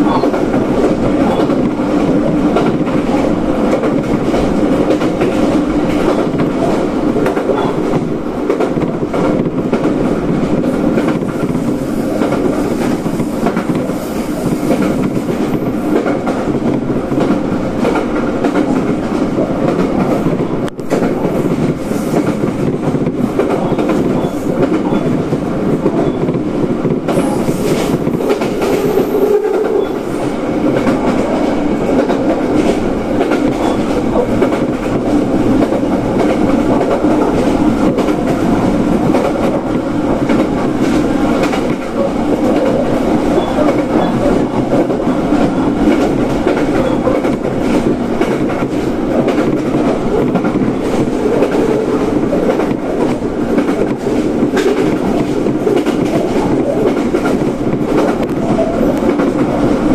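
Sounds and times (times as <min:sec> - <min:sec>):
clickety-clack of rail joints: 0:00.0 - 0:59.9
train wheels rumbling on rails: 0:00.0 - 0:59.9.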